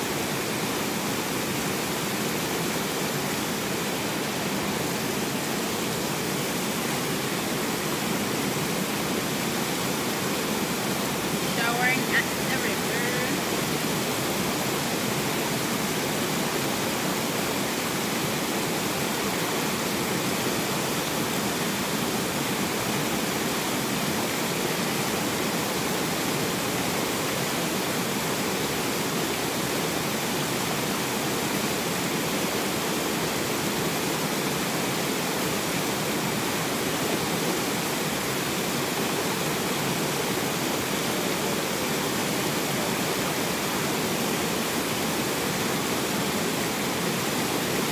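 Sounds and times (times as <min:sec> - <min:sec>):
river water rushing over rocks: 0:00.0 - 0:47.9.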